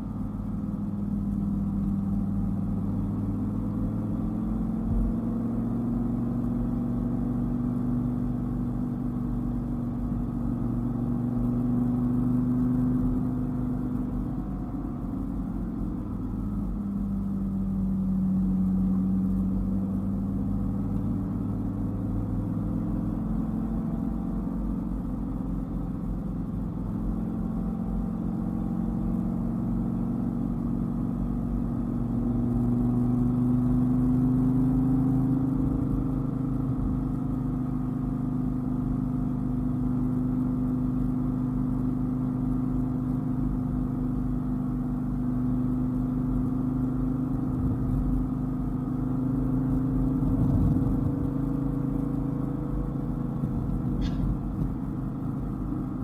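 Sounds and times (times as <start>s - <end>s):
car engine cruising: 0.0s - 56.0s
road noise rumble: 0.0s - 56.0s.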